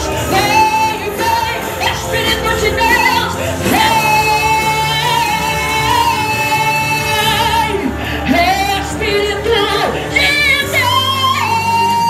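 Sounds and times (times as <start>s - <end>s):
church band playing: 0.0s - 12.0s
keyboard holding chord: 0.0s - 12.0s
woman singing with vibrato: 0.0s - 12.0s.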